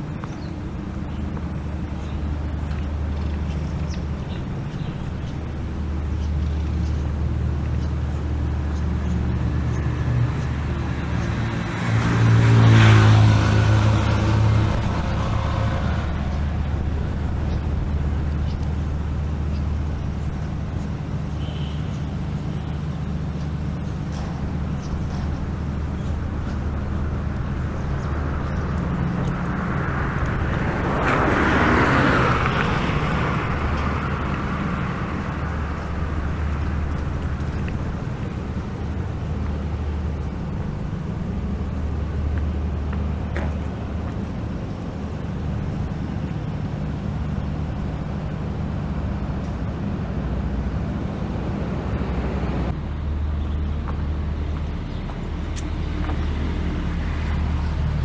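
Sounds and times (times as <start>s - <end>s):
traffic low rumble: 0.0s - 58.0s
vehicle passing: 0.6s - 20.8s, 23.2s - 58.0s.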